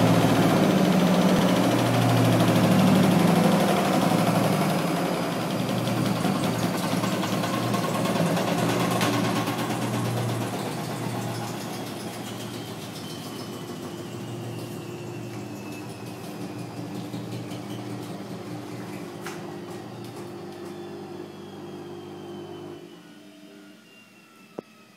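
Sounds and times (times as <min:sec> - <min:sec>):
washing machine spinning: 0:00.0 - 0:24.4.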